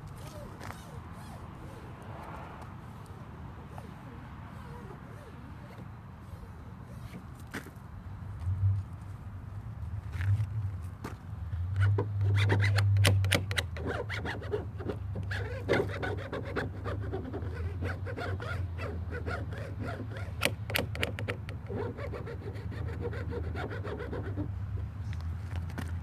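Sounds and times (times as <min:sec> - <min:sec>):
decal scraping and rubbing: 0:00.0 - 0:07.5, 0:11.7 - 0:25.2.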